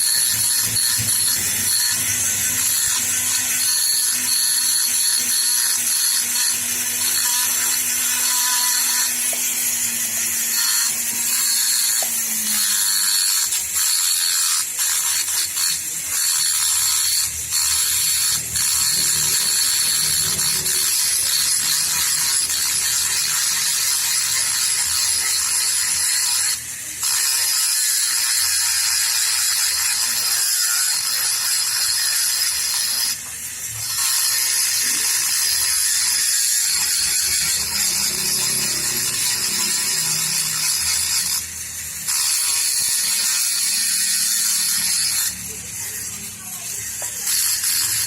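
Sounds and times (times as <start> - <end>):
rasping mechanical noise: 0.0 - 48.0.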